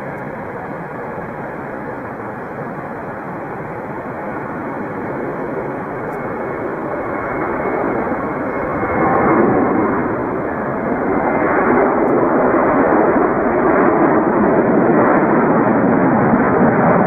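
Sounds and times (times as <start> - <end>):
jet engines at high power: 0.0 - 17.0.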